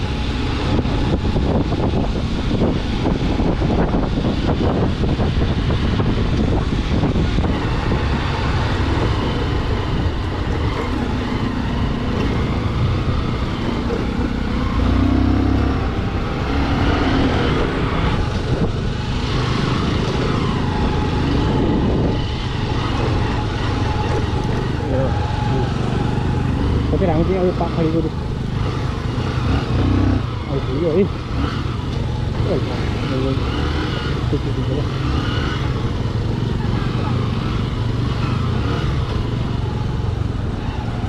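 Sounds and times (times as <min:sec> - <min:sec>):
motorcycle engine hum: 0:00.0 - 0:41.0
road and wind noise: 0:00.0 - 0:41.0.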